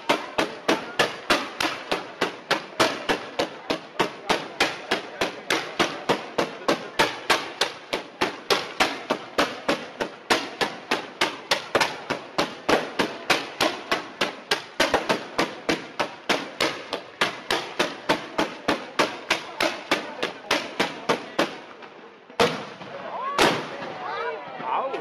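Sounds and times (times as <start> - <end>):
fireworks sharp bangs: 0.0 - 21.8, 22.4 - 24.0.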